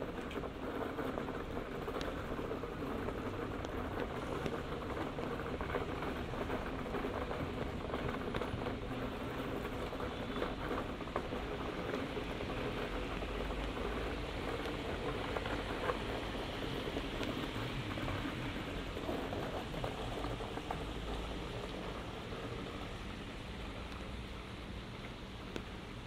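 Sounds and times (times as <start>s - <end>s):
rain pattering on hard surfaces: 0.0s - 26.0s
traffic on wet road: 0.0s - 26.0s.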